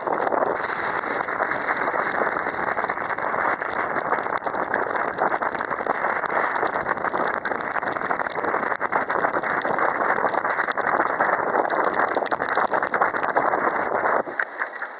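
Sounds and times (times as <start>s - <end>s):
strong wind gusting on microphone: 0.0s - 14.9s
wind-driven rain: 0.0s - 14.9s.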